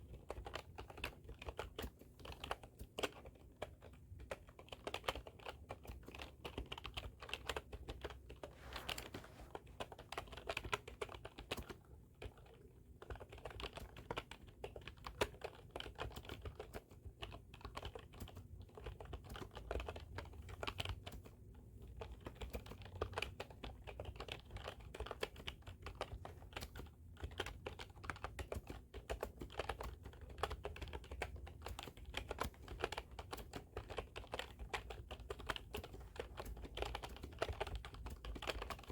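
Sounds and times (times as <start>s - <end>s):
typing on keyboard: 0.0s - 38.9s.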